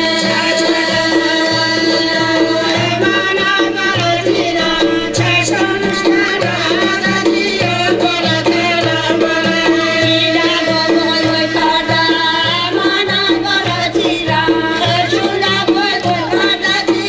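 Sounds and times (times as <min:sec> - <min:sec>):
folk music over speakers: 0:00.0 - 0:17.0
women singing: 0:00.0 - 0:17.0.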